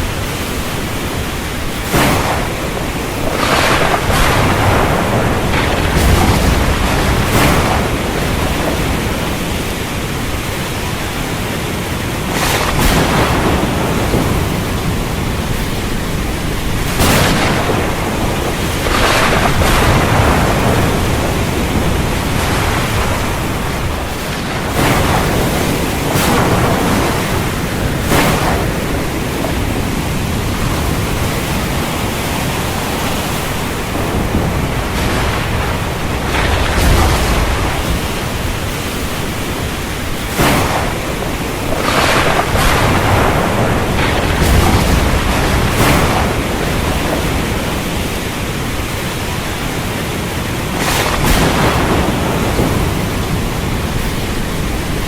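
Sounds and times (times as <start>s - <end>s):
storm wind over sea: 0.0s - 55.0s
waves surging and breaking: 0.0s - 55.0s.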